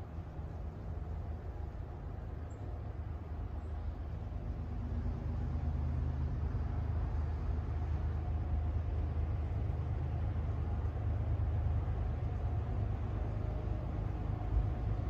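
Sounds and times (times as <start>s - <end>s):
diesel locomotive drone: 0.0s - 15.0s
freight train rumble: 0.0s - 15.0s.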